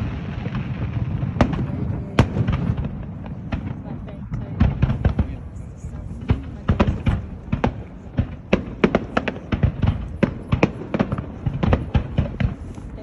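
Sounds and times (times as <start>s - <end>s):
fireworks bangs: 0.0s - 13.0s
low rumbling echo: 0.0s - 13.0s.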